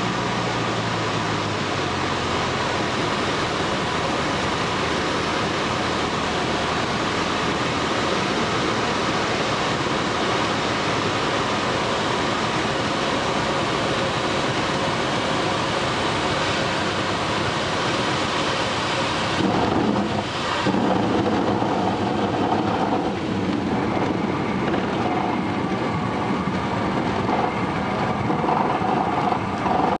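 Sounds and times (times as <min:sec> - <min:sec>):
rush of air: 0:00.0 - 0:30.0
small airplane engine throttled back: 0:00.0 - 0:30.0
aircraft wheels rumbling on grass: 0:01.6 - 0:30.0.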